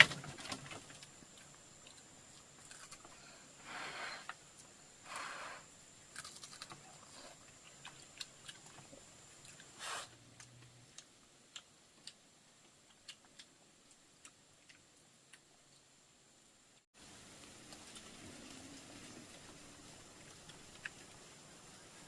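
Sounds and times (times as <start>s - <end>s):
people chewing crunchy food: 0.0s - 16.0s, 17.0s - 22.0s.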